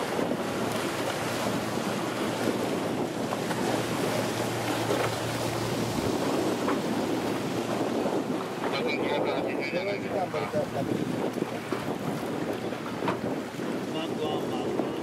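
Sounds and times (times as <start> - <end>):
waves washing around boat: 0.0 - 15.0
wind buffeting microphone: 0.0 - 15.0.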